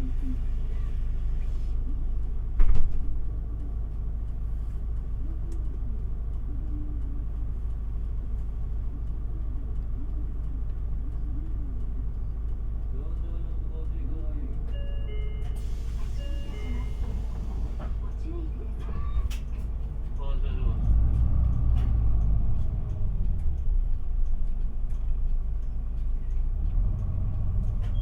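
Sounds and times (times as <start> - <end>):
bus diesel engine idling: 0.0 - 28.0.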